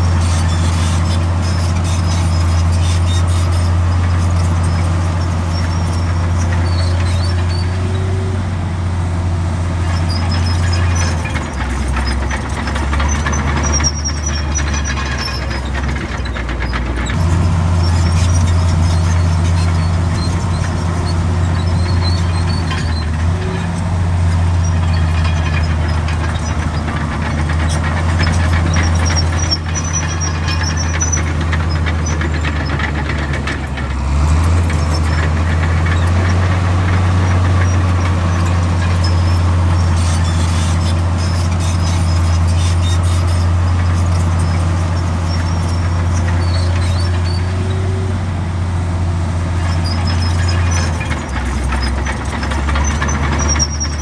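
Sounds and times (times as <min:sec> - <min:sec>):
high squeaks from tracks: 0:00.0 - 0:08.5, 0:09.8 - 0:48.3, 0:49.6 - 0:54.0
bulldozer diesel engine under load: 0:00.0 - 0:54.0.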